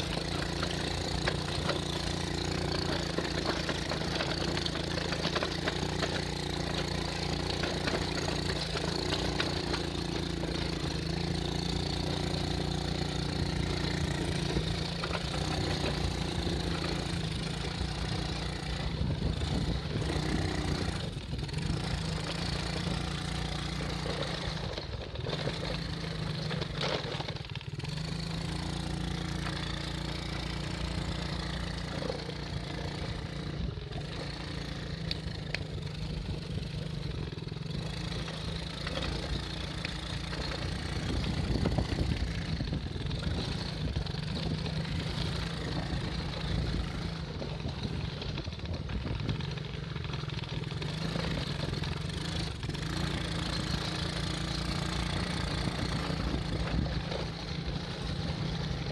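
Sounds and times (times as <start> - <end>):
off-road vehicle engine running: 0.0 - 58.9.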